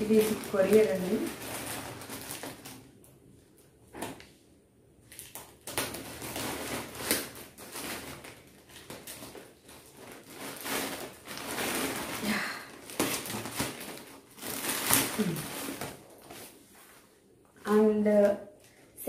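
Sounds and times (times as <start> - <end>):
plastic packaging crinkling: 0.0 - 4.2, 5.0 - 18.9.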